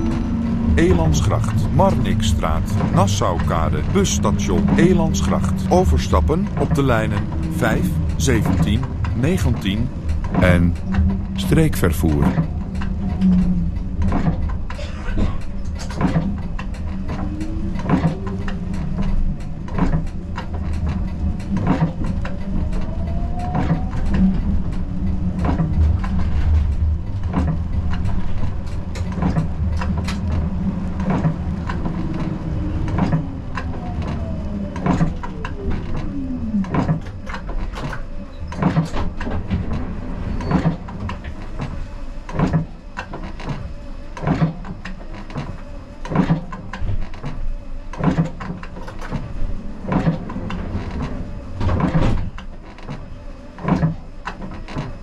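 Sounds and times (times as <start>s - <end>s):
tram rumble: 0.0s - 55.0s.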